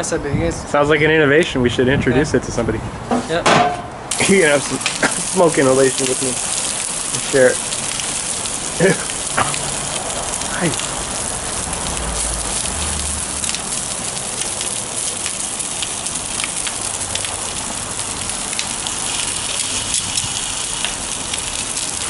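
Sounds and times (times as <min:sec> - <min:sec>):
food sizzling on a grill: 0:04.1 - 0:22.0.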